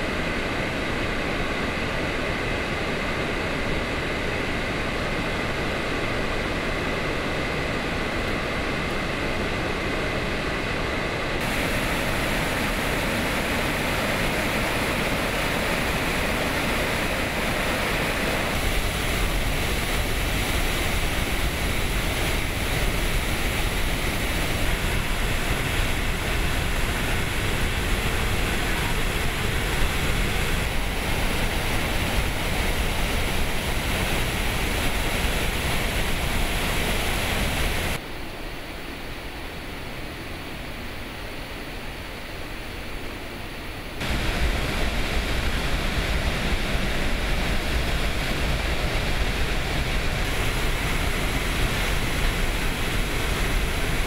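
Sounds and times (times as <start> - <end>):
water rushing from spillway: 0.0 - 54.0.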